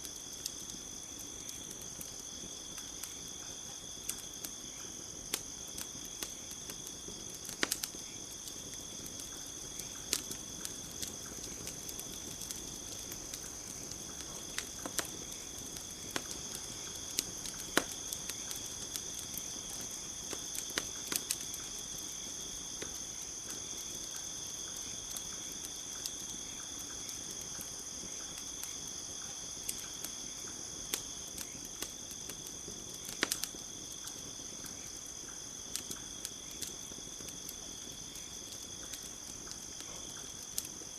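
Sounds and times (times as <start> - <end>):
campfire crackling and popping: 0.0 - 40.9
crickets chirring: 0.0 - 40.9.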